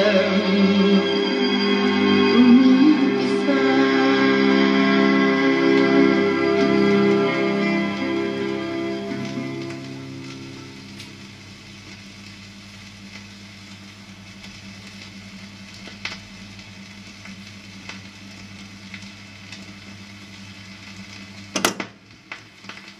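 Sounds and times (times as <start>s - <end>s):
low steady hum: 0.0s - 22.6s
vinyl crackle and hiss: 0.0s - 22.9s.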